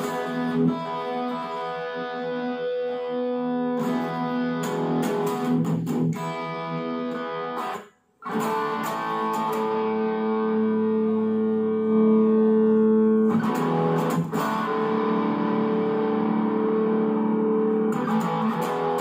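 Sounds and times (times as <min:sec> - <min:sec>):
electric guitar through amplifier: 0:00.0 - 0:19.0.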